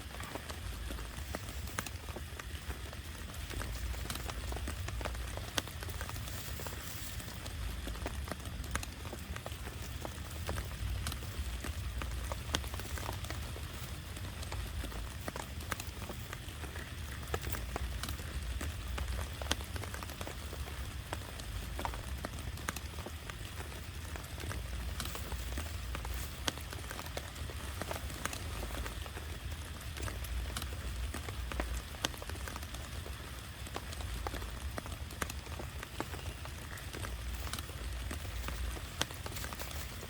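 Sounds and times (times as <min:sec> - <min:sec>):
heavy rain falling: 0:00.0 - 0:40.0
raindrops ticking on a surface: 0:00.0 - 0:40.0.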